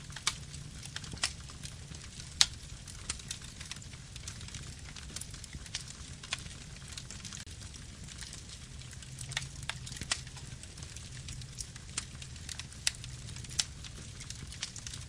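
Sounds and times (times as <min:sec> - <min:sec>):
burning wood crackling and popping: 0:00.0 - 0:15.0
campfire flames rumbling: 0:00.0 - 0:15.0.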